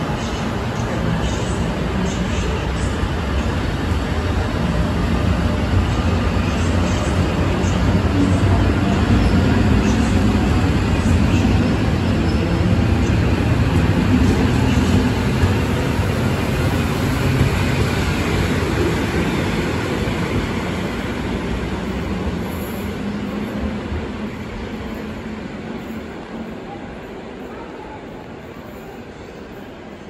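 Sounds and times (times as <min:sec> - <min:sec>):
train wheels rumbling on rails: 0:00.0 - 0:26.6.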